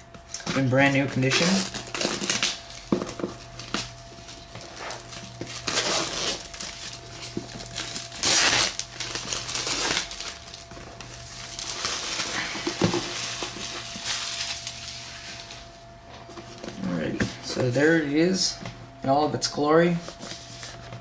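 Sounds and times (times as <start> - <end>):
packaging rustling and crinkling: 0.3 - 18.0.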